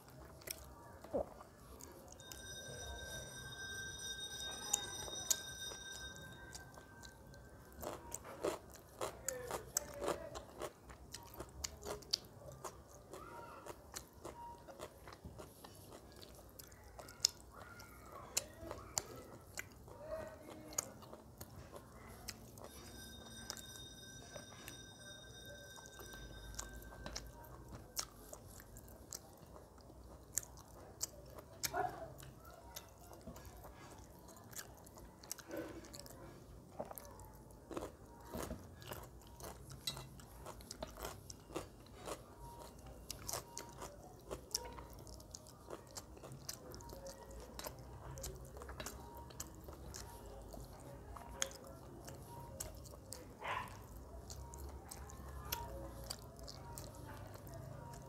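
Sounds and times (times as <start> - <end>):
chewing with lip and teeth clicks: 0.0 - 3.6, 4.4 - 58.0.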